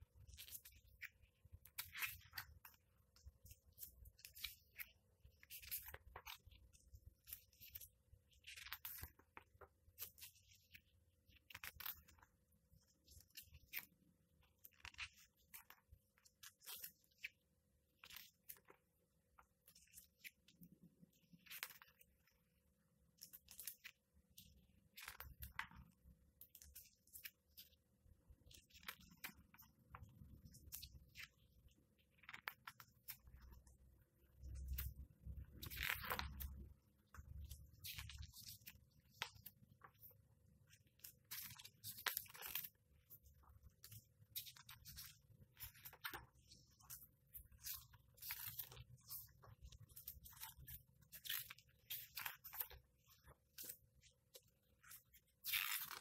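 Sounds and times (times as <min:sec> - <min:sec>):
book pages turning: 0:00.2 - 0:13.9, 0:14.5 - 0:17.4, 0:18.0 - 0:18.8, 0:19.6 - 0:20.6, 0:21.4 - 0:22.3, 0:23.2 - 0:27.7, 0:28.5 - 0:33.7, 0:34.5 - 0:56.0.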